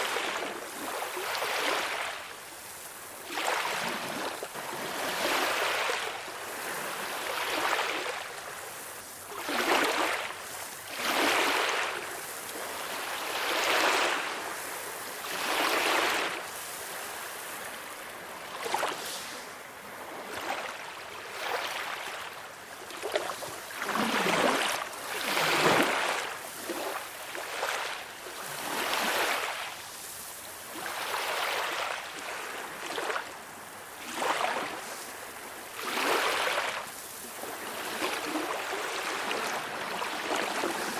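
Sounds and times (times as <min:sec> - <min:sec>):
small sea waves breaking: 0:00.0 - 0:40.9.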